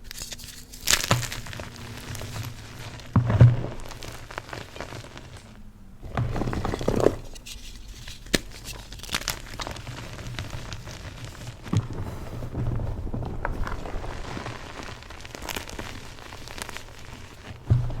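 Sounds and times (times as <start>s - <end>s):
chalk crunching and crumbling: 0.0s - 18.0s.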